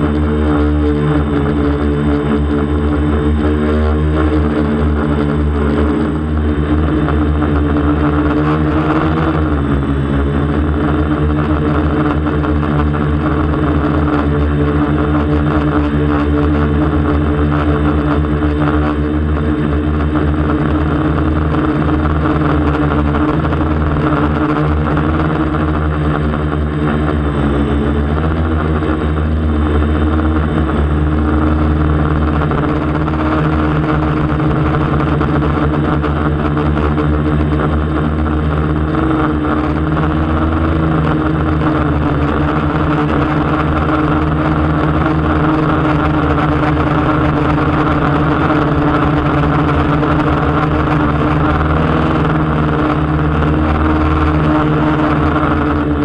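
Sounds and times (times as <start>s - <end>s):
drone motors and propellers buzzing: 0.0s - 56.0s.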